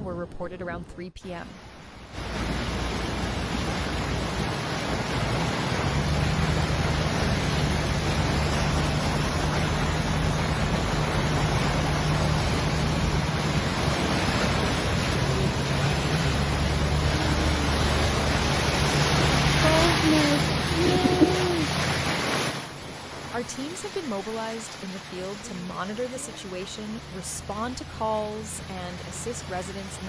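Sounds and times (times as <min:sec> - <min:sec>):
low steady hum: 0:00.0 - 0:30.0
flowing water: 0:01.5 - 0:30.0
heavy downpour: 0:01.8 - 0:30.0.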